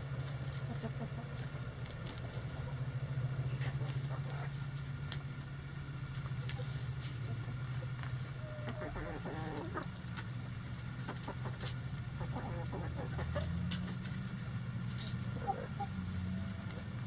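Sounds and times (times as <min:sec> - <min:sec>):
steady low hum: 0:00.0 - 0:17.0
hens clucking: 0:00.2 - 0:04.9, 0:06.1 - 0:14.2, 0:15.2 - 0:17.0.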